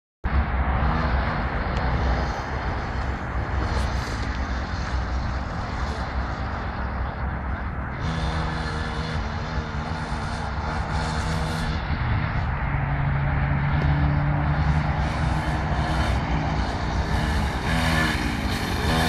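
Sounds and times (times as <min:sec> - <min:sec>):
wind rumble on microphone: 0:00.3 - 0:19.0
small engines running: 0:00.6 - 0:19.0.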